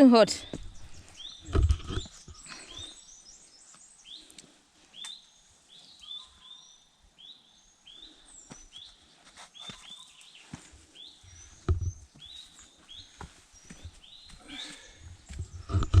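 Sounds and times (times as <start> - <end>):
bird chirping: 0.4 - 16.0.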